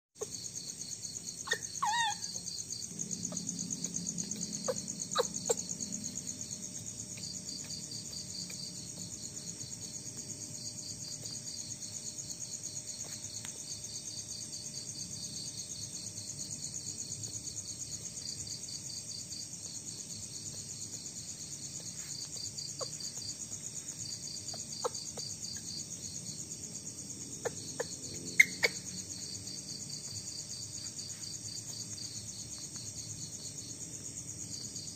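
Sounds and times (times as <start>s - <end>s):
night insects trilling: 0.2s - 34.9s.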